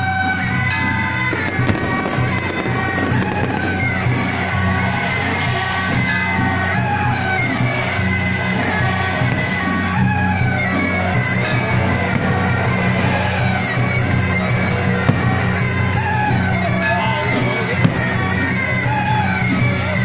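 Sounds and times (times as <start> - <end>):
fireworks crackling: 0.4 - 20.0.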